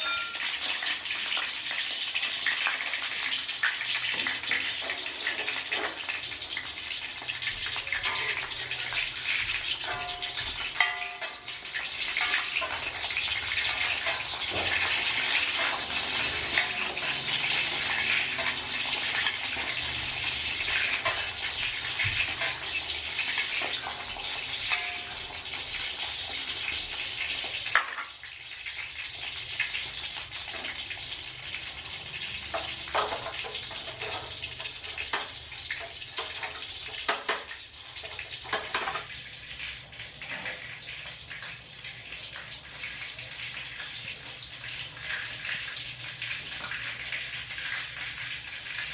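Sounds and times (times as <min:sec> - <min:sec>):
hot oil sizzling around frying fish: 0:00.0 - 0:48.9.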